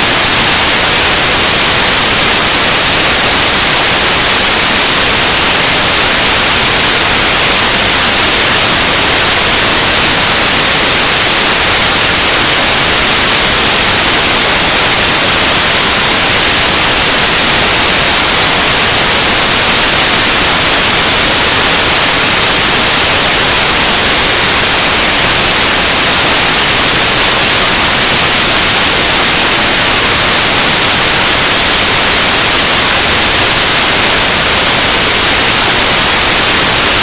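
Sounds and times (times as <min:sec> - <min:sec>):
static hiss noise music: 0:00.0 - 0:37.0.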